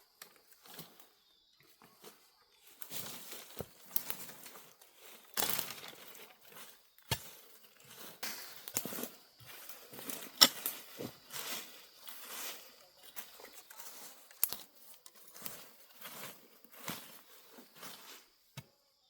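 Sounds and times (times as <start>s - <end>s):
dry plants rustling and crinkling: 0.0s - 18.6s.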